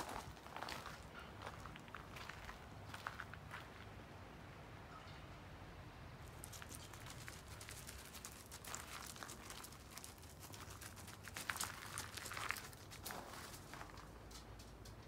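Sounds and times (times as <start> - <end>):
footsteps crunching on gravel: 0.0 - 4.0, 6.3 - 14.7.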